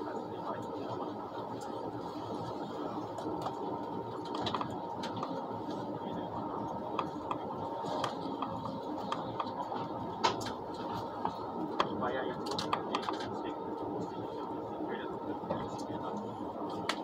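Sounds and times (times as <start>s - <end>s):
train cabin running noise: 0.0s - 17.0s.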